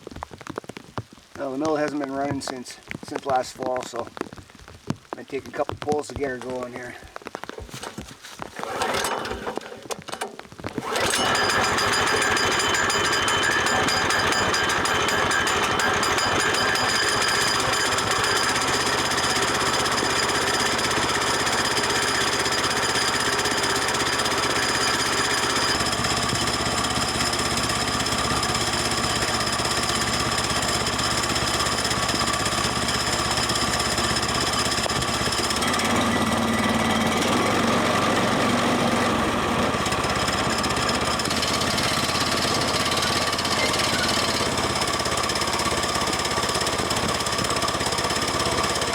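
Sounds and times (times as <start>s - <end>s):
small gasoline engine running: 7.2s - 48.9s.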